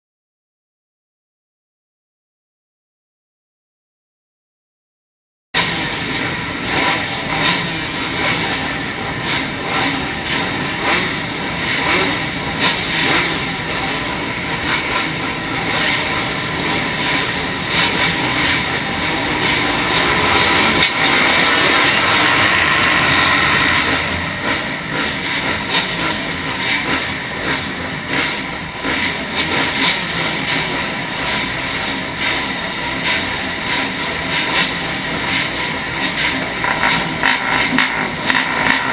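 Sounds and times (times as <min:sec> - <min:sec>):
dirt bike engines revving: 0:05.6 - 0:38.9.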